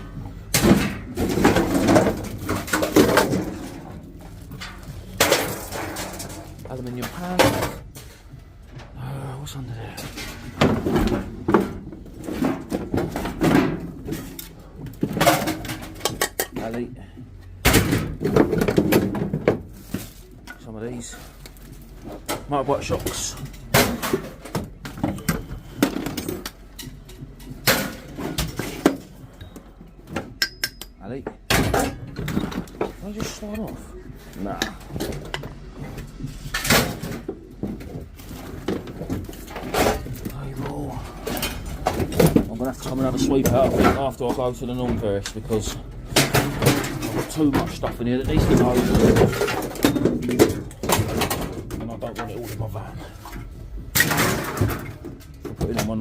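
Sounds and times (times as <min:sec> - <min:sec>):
scrap metal rattling and rustling: 0:00.0 - 0:30.5, 0:31.4 - 0:56.0.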